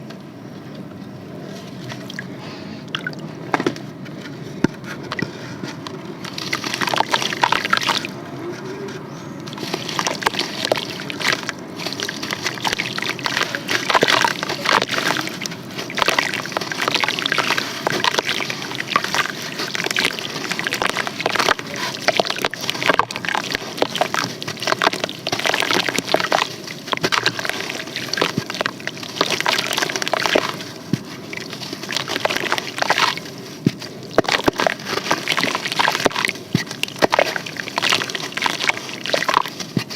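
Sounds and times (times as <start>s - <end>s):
wet sand squishing and sloshing: 6.1s - 8.2s, 9.4s - 39.9s.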